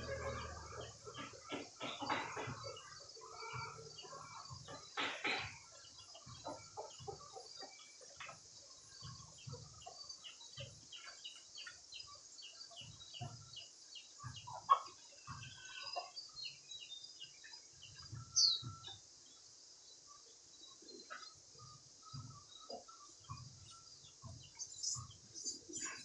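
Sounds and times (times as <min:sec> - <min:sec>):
chickens clucking: 0:00.0 - 0:19.0, 0:20.8 - 0:26.0.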